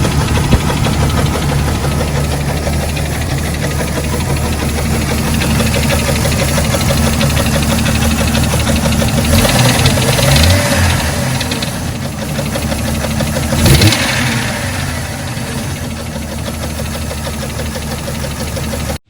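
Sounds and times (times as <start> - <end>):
engine running with heavy knock: 0.0 - 19.0.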